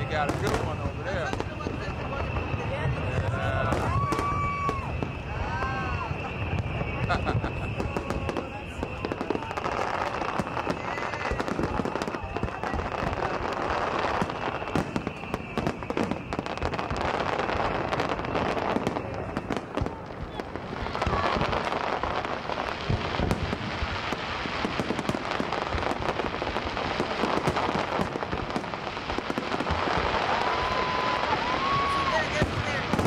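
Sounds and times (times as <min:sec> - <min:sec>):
fireworks bursting and crackling: 0:00.0 - 0:33.0.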